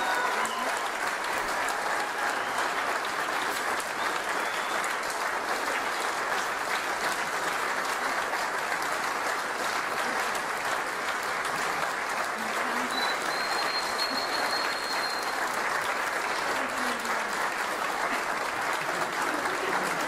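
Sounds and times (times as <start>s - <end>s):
audience applause: 0.0s - 20.0s.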